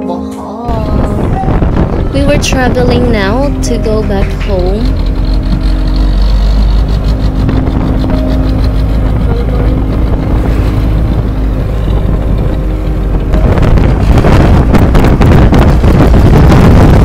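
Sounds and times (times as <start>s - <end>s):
vehicle engine running: 0.7s - 17.0s
wind gusting on microphone: 0.7s - 17.0s.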